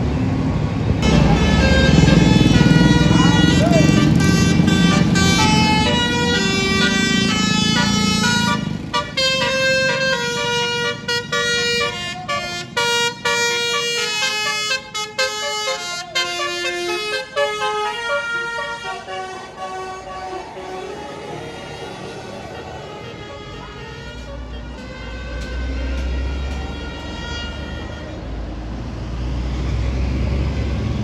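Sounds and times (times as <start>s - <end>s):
bus musical horn playing tune: 1.0s - 28.4s.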